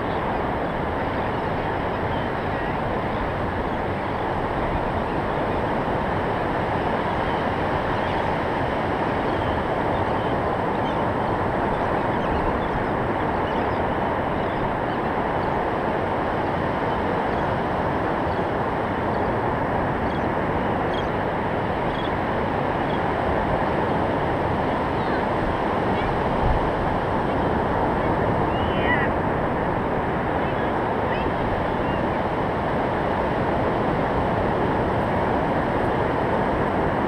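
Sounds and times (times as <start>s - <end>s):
ocean surf breaking on beach: 0.0s - 37.0s.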